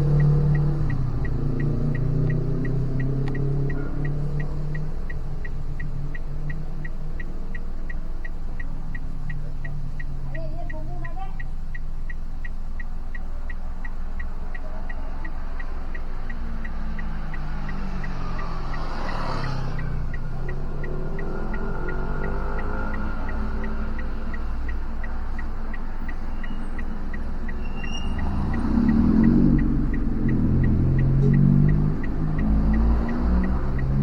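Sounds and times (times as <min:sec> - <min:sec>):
high-pitched ticking: 0:00.0 - 0:34.0
vehicle engine hum: 0:00.0 - 0:34.0.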